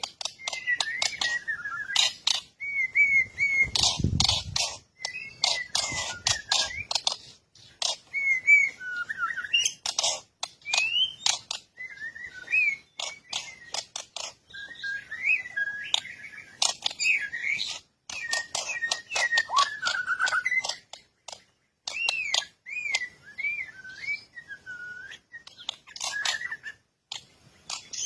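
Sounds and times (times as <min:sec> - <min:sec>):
bird chips and whistled notes: 0:00.0 - 0:28.0.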